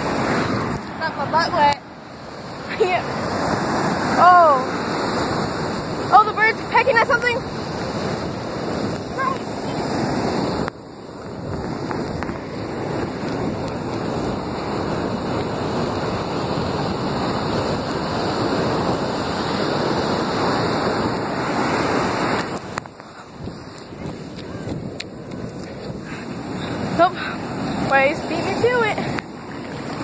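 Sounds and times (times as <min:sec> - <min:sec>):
surf washing up beach: 0:00.0 - 0:30.0
wind buffeting microphone: 0:00.0 - 0:30.0.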